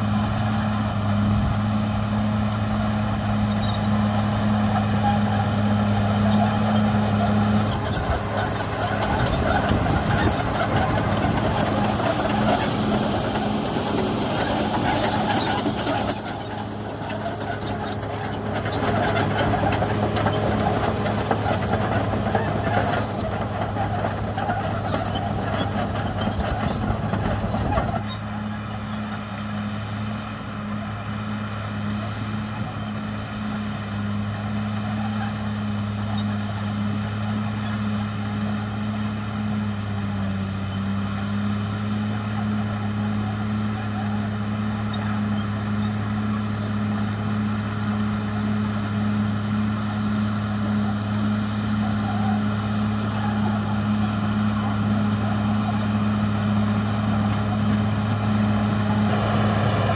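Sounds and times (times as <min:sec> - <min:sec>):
bulldozer diesel engine drone: 0:00.0 - 0:59.9.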